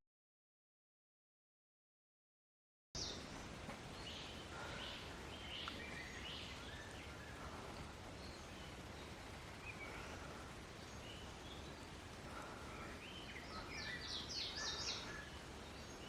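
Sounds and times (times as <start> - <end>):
background hush: 3.0 - 16.0
birds chirping: 3.0 - 16.0.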